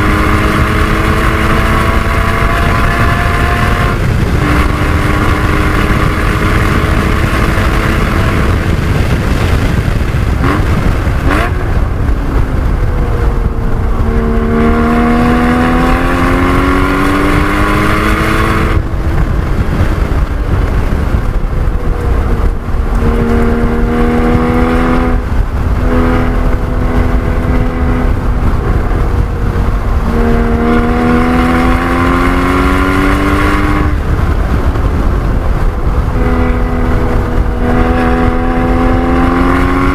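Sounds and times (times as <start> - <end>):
heavy steady rush of noise: 0.0 - 39.9
race car engine revving: 0.0 - 39.9.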